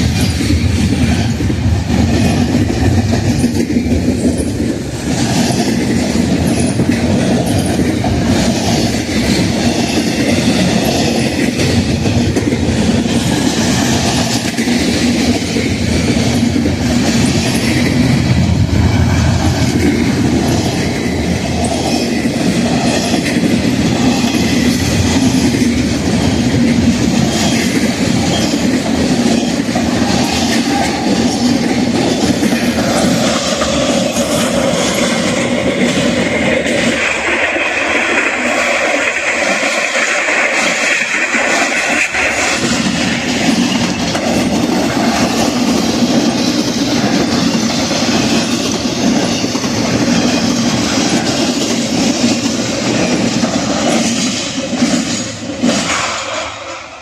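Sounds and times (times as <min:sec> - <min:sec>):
freight train rumbling past: 0:00.0 - 0:57.0
wheels clacking over rail joints: 0:00.0 - 0:57.0.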